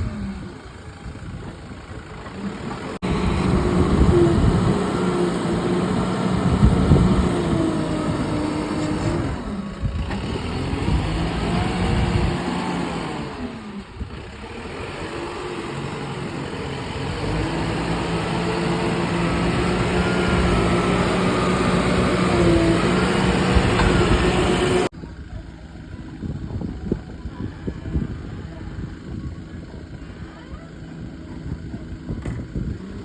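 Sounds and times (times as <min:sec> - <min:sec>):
heavy machine engine running: 0:00.0 - 0:33.0.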